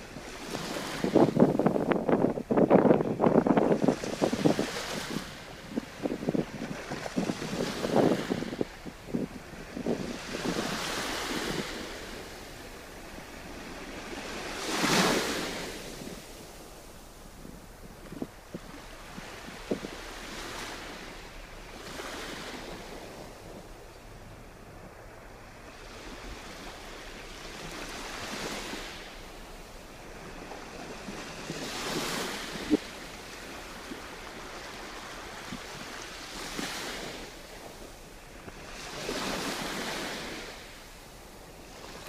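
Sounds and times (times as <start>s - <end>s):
small waves washing on shore: 0.0s - 42.0s.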